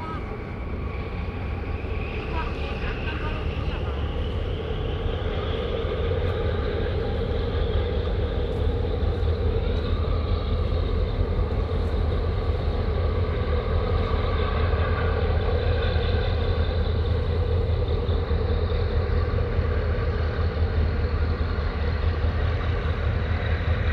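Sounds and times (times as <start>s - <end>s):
engine drone: 0.0s - 23.9s
faint wavering whine: 0.0s - 23.9s.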